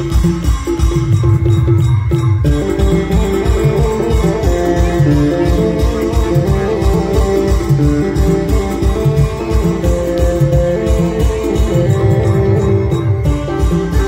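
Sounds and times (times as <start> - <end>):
music with fast beat: 0.0 - 14.0
plucked string melody: 0.0 - 14.0.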